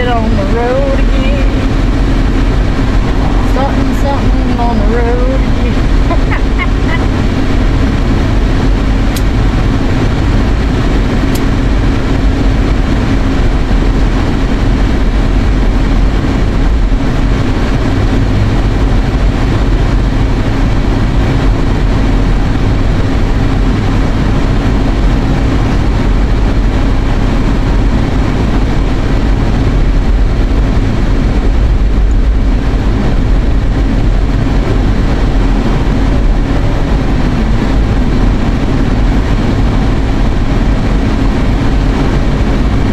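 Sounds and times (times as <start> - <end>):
air conditioning fan blowing: 0.0 - 42.9
car engine and road rumble: 0.0 - 42.9.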